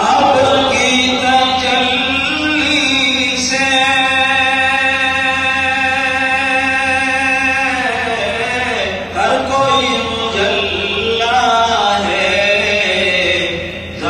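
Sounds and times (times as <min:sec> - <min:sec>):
man chanting devotional poem: 0:00.0 - 0:14.0.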